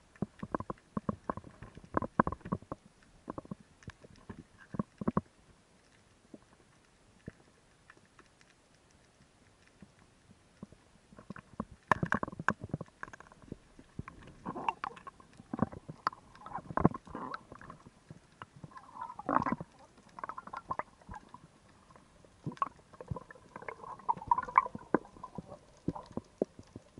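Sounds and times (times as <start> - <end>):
water gurgling: 0.0 - 5.4, 10.6 - 26.9.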